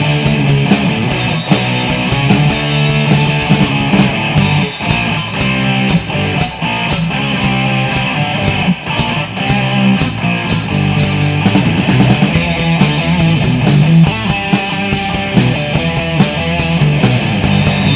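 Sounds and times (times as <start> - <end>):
bass guitar: 0.0 - 17.9
distorted electric guitar: 0.0 - 17.9
drums: 0.0 - 17.9.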